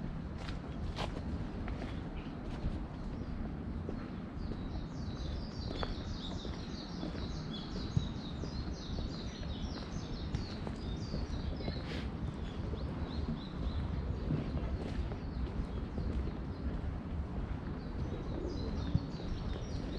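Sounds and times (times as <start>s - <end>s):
footsteps on a path: 0.1s - 19.9s.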